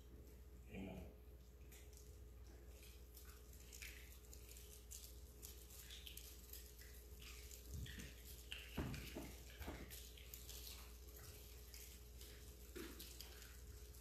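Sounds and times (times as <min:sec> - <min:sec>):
faint clicks and rustles: 0:01.4 - 0:14.0.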